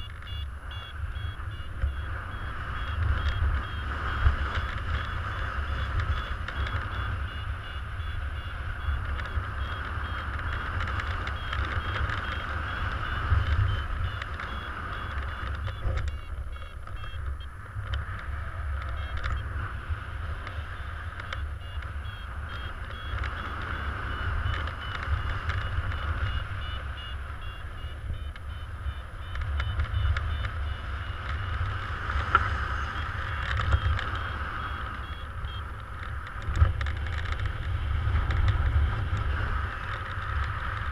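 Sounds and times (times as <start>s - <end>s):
variometer beeping: 0.0s - 40.9s.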